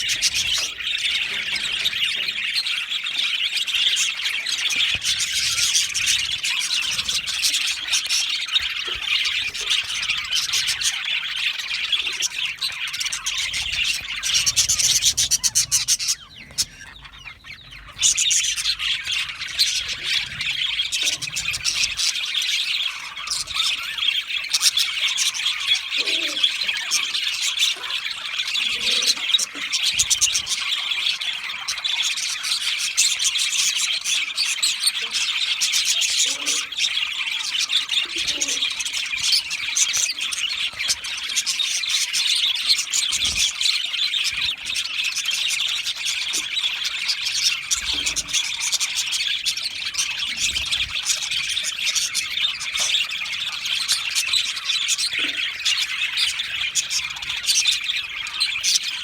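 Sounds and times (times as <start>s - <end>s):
flock of budgerigars chirping: 0.0s - 59.0s.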